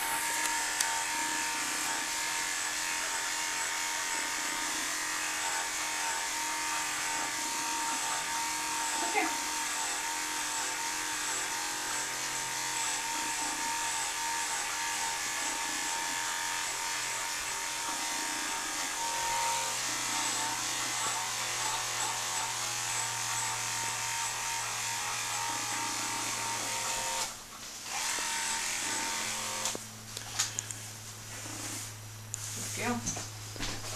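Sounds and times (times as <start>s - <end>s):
electric clippers running: 0.0s - 31.8s.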